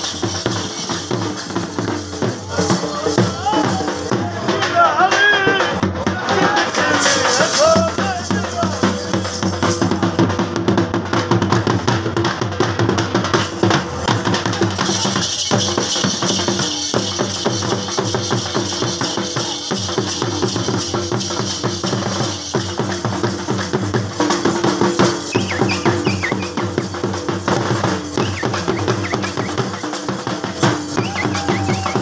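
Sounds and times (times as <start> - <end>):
barrel drums beaten with sticks: 0.0 - 32.0.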